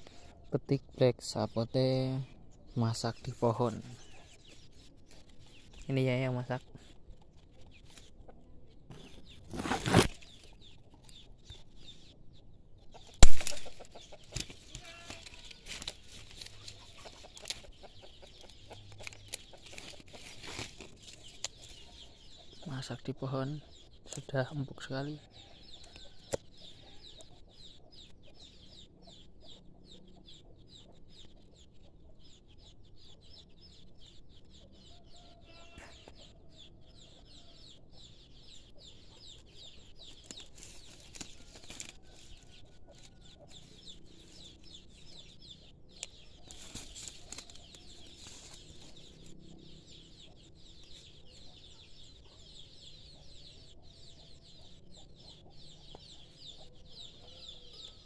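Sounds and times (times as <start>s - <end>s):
chickens clucking: 1.8s - 58.0s.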